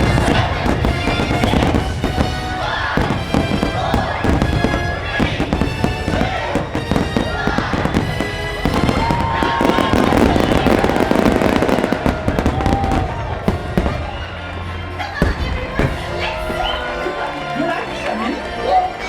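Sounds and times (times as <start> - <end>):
fireworks bursting and crackling: 0.0 - 18.6
show music: 0.0 - 19.0.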